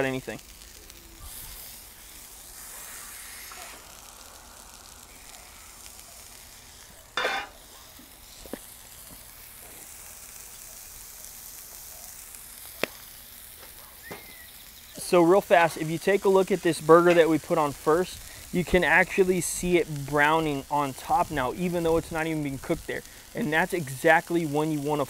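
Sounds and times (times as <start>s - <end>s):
burger patties sizzling on griddle: 0.0s - 25.0s.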